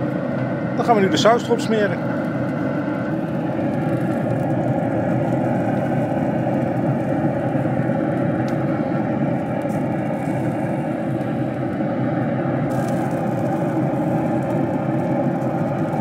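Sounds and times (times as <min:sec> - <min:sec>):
grill fan whooshing rumble: 0:00.0 - 0:16.0.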